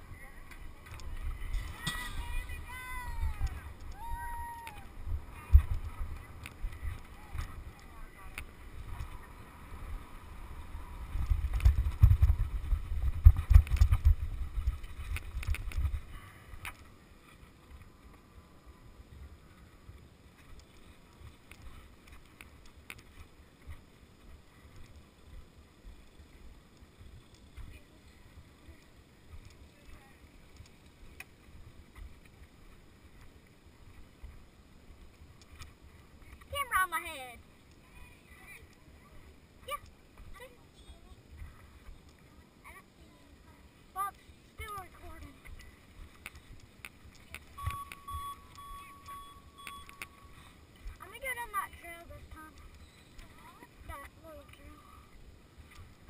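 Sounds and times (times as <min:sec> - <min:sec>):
wind buffeting camera: 0:00.0 - 0:56.0.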